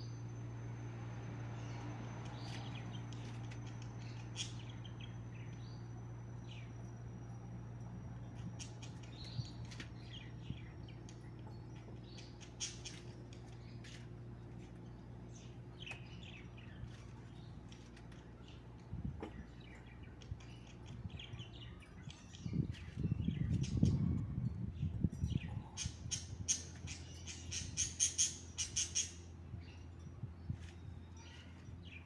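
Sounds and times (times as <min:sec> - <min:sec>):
songbirds chirping and twittering: 0:00.0 - 0:32.0
steady low hum: 0:00.0 - 0:32.0.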